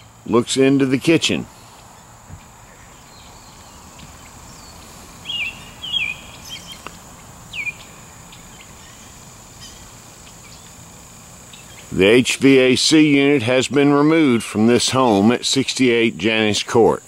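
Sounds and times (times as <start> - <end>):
bird chirping: 0.0 - 16.5
faint high whine: 0.0 - 17.0
outdoor background noise: 0.0 - 17.0.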